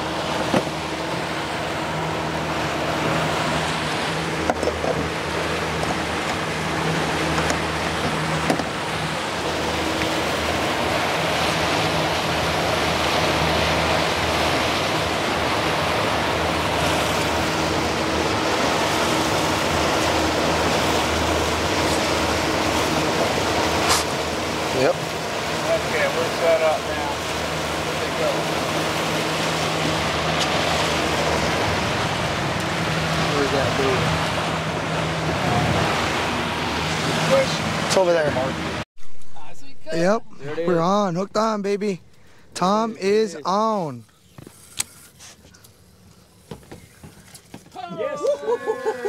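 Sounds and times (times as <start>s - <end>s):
rushing water: 0.0s - 44.1s, 46.4s - 49.0s
boat engine running: 0.0s - 49.0s
wind: 0.0s - 49.0s.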